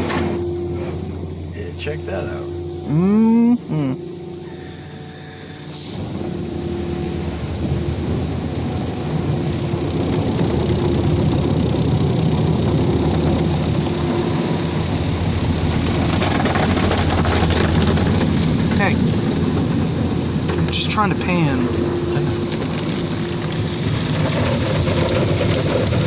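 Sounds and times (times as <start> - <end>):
car wash machinery running: 0.0 - 2.9, 3.6 - 26.0.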